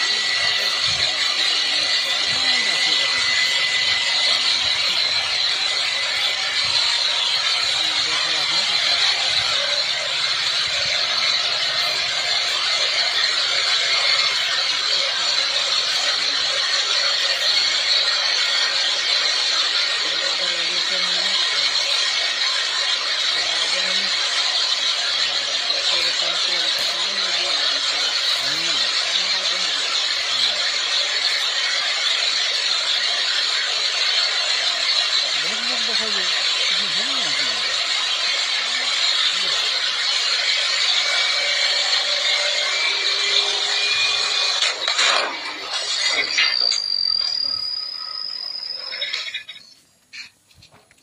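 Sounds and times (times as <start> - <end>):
helicopter engine and rotors whirring: 0.0 - 51.0.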